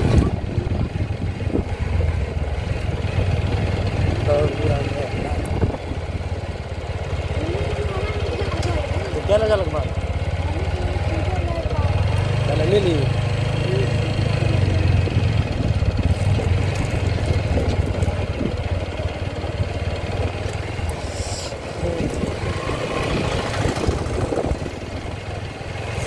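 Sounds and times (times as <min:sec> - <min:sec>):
small motorcycle engine running: 0:00.0 - 0:26.0.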